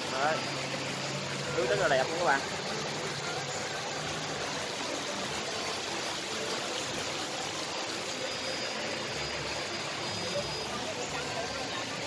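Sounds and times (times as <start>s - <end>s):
water flowing down steps: 0.0s - 12.0s.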